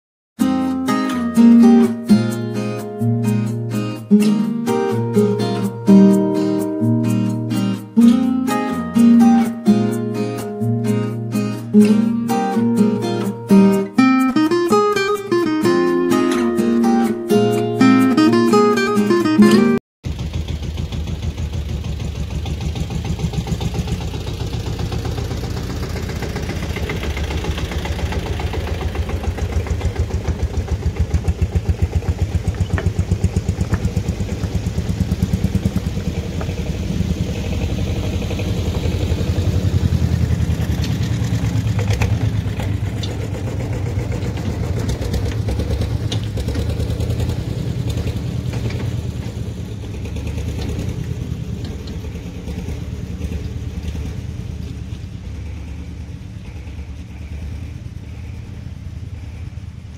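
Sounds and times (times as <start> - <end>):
tractor engine running: 0.4 - 59.9.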